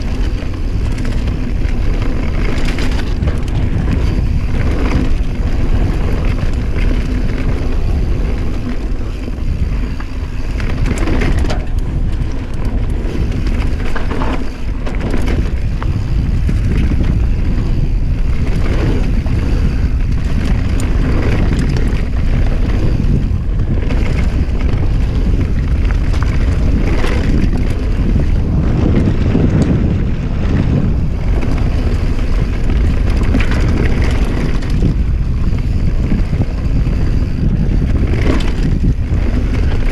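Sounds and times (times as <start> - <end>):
bike rattling and knocking: 0.0 - 39.9
bike tyres rolling over dirt: 0.0 - 39.9
wind buffeting microphone: 0.0 - 39.9.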